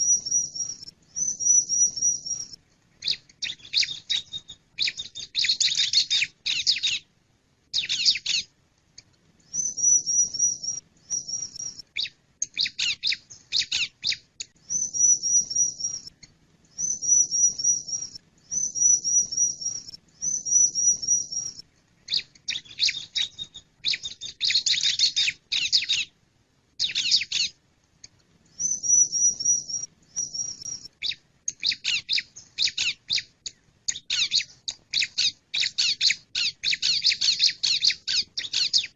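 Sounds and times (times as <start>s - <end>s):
bird chirping: 0.0s - 7.1s, 7.7s - 38.9s.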